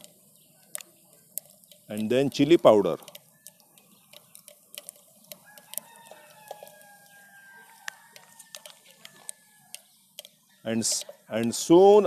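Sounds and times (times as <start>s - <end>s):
chickens calling: 0.0s - 11.4s
spices popping in hot oil: 0.0s - 11.8s.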